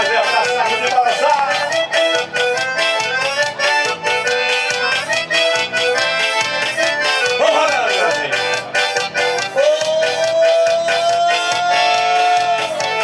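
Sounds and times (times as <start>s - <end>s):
accordion melody: 0.0s - 13.0s
fast percussion beat: 0.0s - 13.0s.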